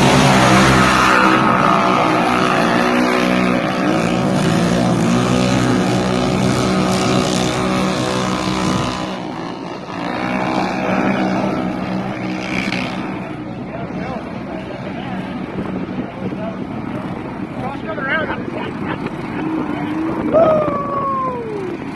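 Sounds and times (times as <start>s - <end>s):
quad bike engine revving: 0.0s - 21.9s.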